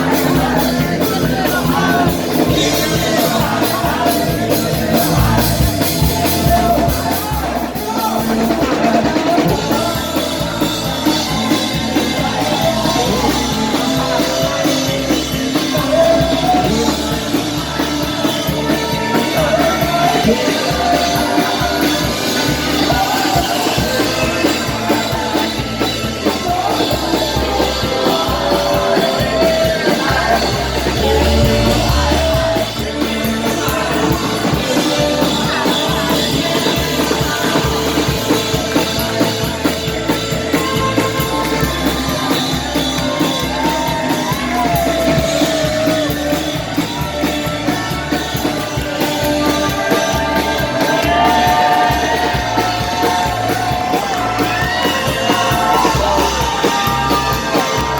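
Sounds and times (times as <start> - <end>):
live rock band playing: 0.0 - 57.9
singer holding long notes: 0.0 - 57.9
steady drum beat: 0.0 - 57.9.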